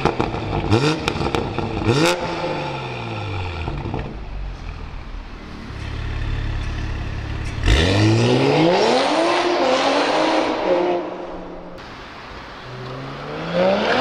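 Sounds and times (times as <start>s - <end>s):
car engine idling and accelerating: 0.0s - 14.0s.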